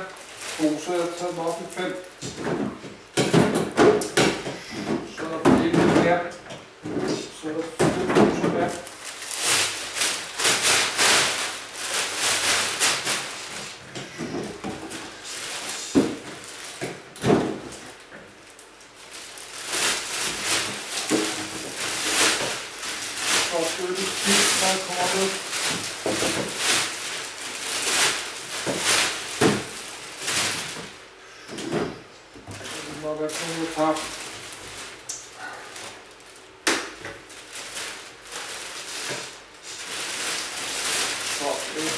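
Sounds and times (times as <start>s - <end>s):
bags rustling and crinkling: 0.0s - 2.9s, 6.8s - 41.9s.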